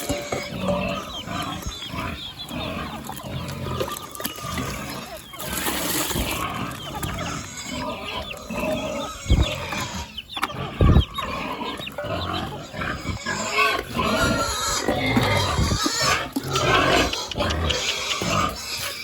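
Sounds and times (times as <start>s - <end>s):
pigs grunting and squealing: 0.0s - 19.0s.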